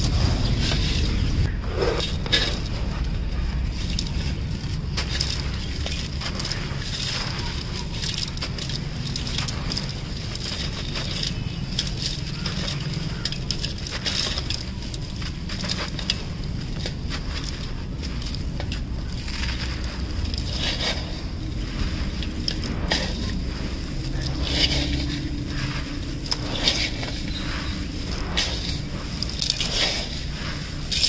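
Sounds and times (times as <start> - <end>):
sand-cement crunching by hand: 0.0 - 31.0
grit falling into steel pot: 2.0 - 31.0.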